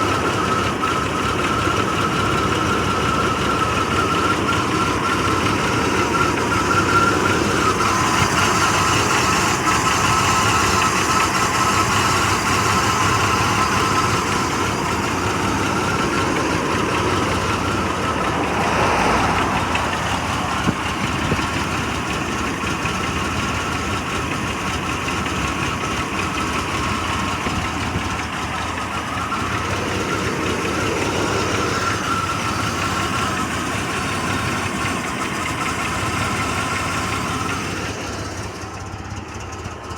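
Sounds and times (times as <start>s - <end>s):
engine idling roughly: 0.0s - 39.9s.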